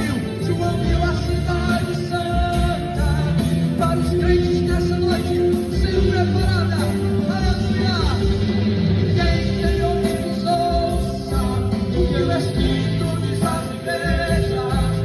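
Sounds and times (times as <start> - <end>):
band playing music: 0.0 - 15.0
person singing: 0.0 - 15.0.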